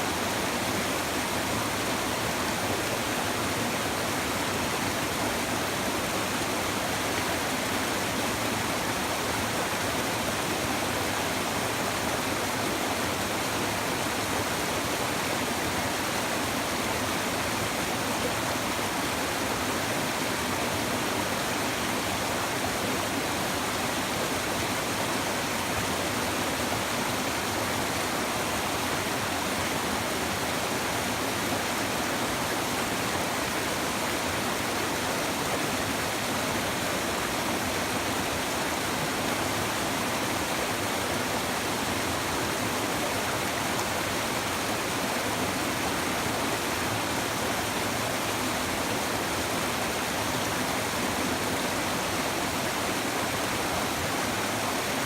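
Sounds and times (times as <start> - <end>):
babbling river water: 0.0 - 55.0.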